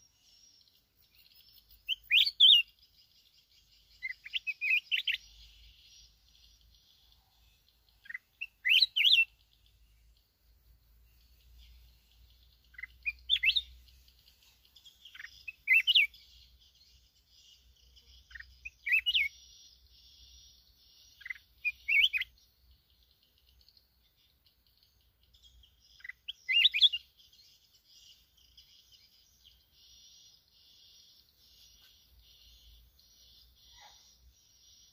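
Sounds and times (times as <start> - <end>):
bird singing: 0.0 - 34.9.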